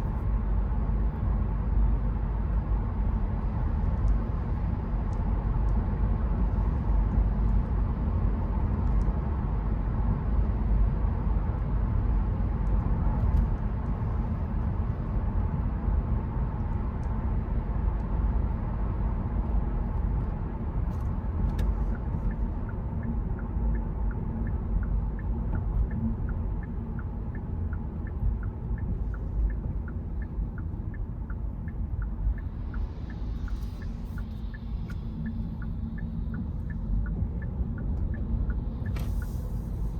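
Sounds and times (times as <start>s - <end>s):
car driving rumble from inside: 0.0s - 39.9s.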